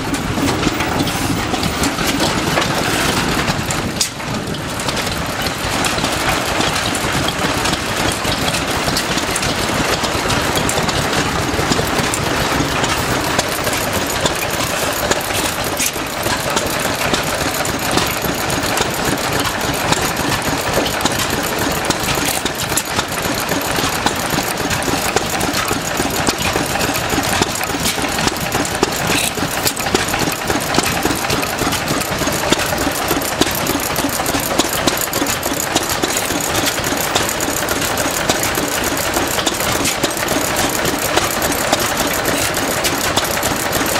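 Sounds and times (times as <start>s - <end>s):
stationary engines clattering: 0.0s - 43.9s.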